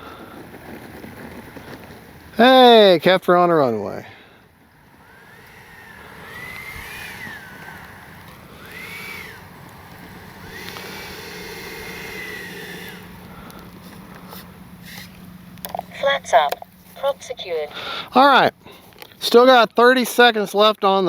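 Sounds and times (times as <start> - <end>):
electric ducted fan whining: 0.0 - 19.6.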